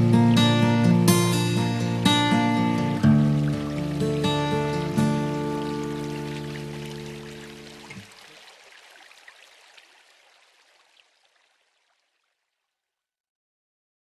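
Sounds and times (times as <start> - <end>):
water drips: 0.0 - 12.6
trickling stream water: 0.0 - 13.0.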